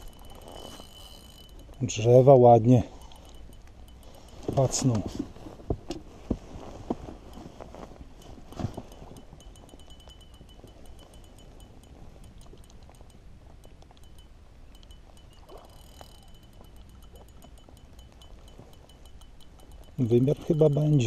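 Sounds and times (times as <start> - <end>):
faint high whine: 0.0 - 5.3, 7.3 - 21.0
fishing reel ticking: 0.0 - 5.4, 7.2 - 21.0.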